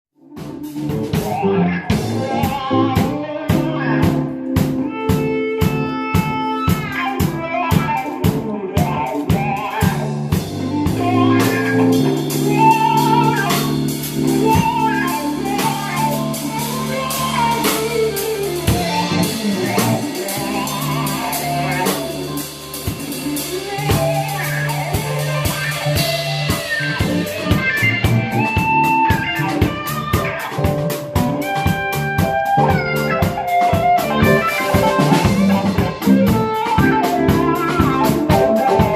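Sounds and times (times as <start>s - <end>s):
funk band playing: 0.2s - 38.9s.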